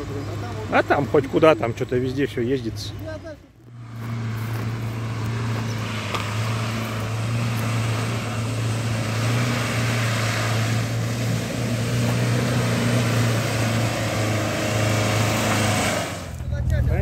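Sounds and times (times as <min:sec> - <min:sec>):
van engine running: 0:00.0 - 0:17.0.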